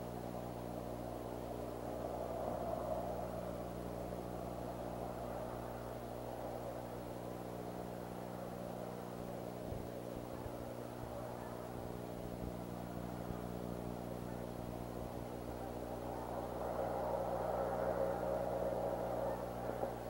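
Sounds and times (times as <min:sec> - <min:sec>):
rushing background noise: 0:00.0 - 0:20.0
steady low hum: 0:00.0 - 0:20.0.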